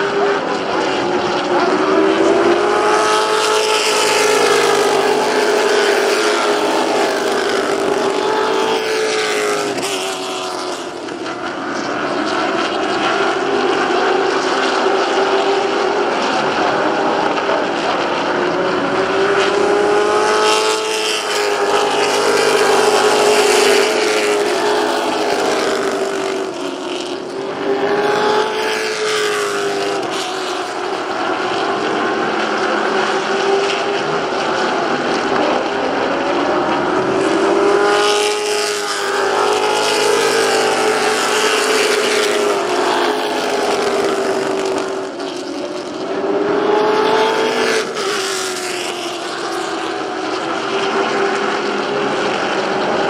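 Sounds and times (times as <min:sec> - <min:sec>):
racing car engines: 0:00.0 - 0:53.0.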